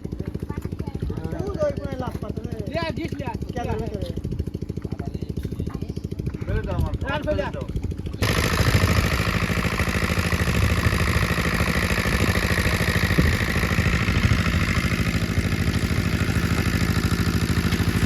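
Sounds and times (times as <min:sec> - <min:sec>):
small engine running steadily: 0:00.0 - 0:18.0.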